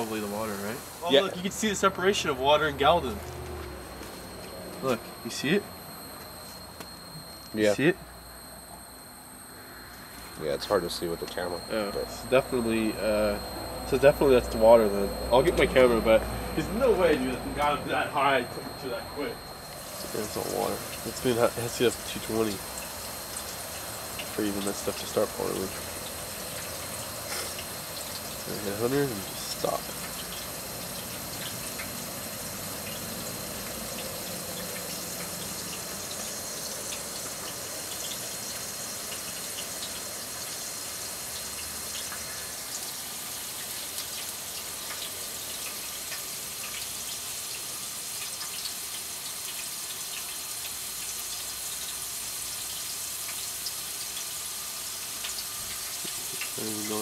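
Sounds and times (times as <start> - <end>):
water boiling with hiss and pops: 0.0 - 57.0.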